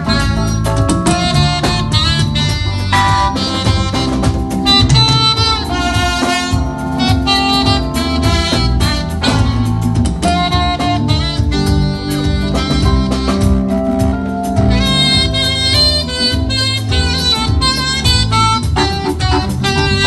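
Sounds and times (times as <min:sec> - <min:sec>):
drum kit: 0:00.0 - 0:20.0
saxophone: 0:00.0 - 0:20.0
trumpet: 0:00.0 - 0:20.0.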